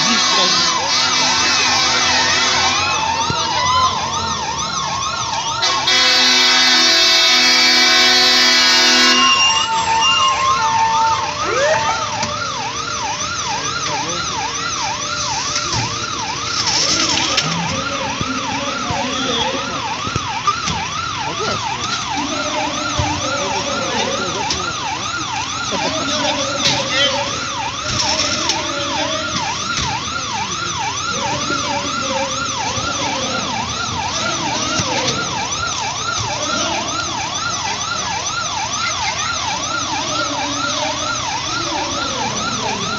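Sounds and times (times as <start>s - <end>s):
crowd voices: 0.0s - 42.9s
siren yelping: 0.0s - 42.9s.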